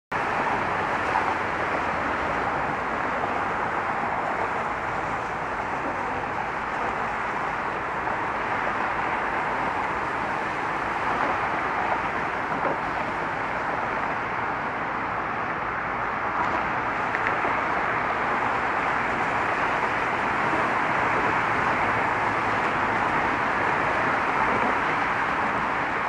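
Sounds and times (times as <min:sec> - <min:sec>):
road traffic roar: 0:00.1 - 0:26.0.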